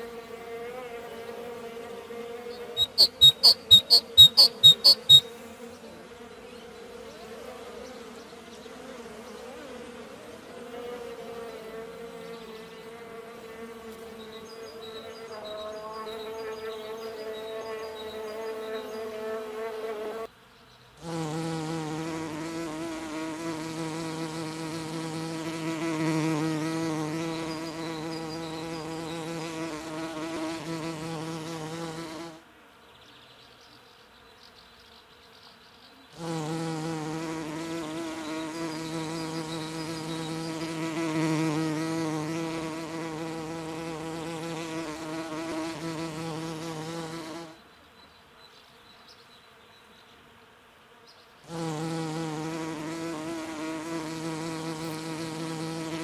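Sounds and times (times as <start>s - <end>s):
bee buzzing in flight: 0.0s - 20.3s, 21.0s - 32.5s, 35.0s - 47.7s, 49.2s - 56.0s.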